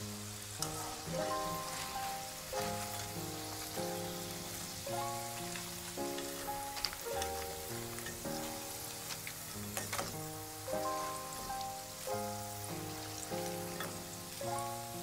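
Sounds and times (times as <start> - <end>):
background music of sustained chords: 0.0 - 15.0
fries sizzling in oil: 0.0 - 15.0.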